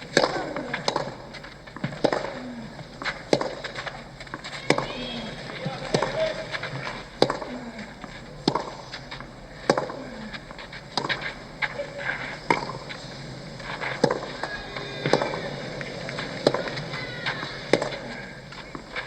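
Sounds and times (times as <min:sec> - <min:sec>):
steady background hum: 0:00.0 - 0:19.0
tennis racket hits and bounces: 0:00.1 - 0:19.0.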